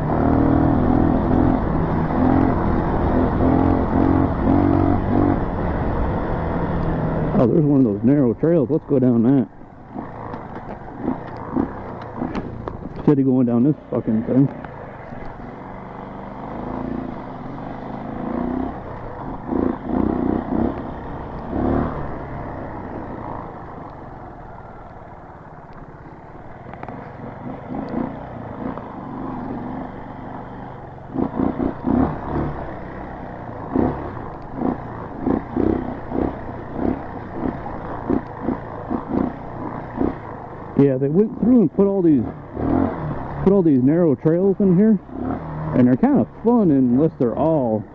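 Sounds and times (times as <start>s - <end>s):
short engine revs: 0.0s - 8.2s, 9.0s - 14.7s, 15.8s - 23.8s, 26.8s - 47.8s
dirt bike engine running: 0.0s - 47.9s.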